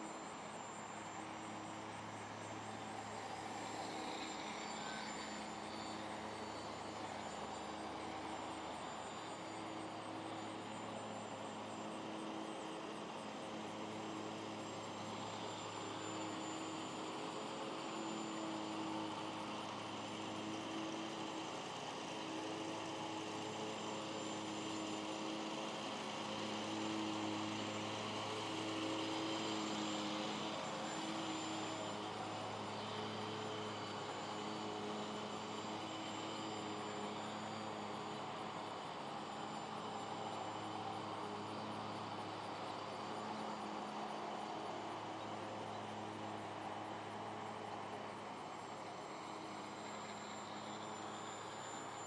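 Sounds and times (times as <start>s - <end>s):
model plane motor drone: 0.0s - 52.0s.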